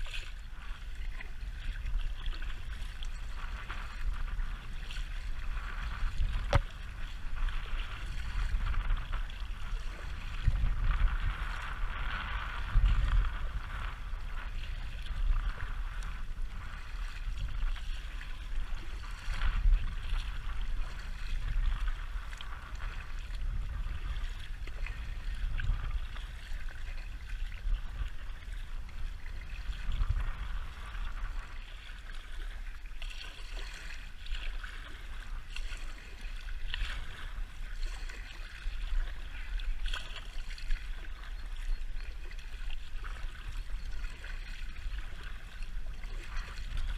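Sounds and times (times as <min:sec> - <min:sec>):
water lapping against kayak: 0:00.0 - 0:46.9
water splashing from paddle strokes: 0:00.0 - 0:46.9
wind rumbling on microphone: 0:00.0 - 0:46.9.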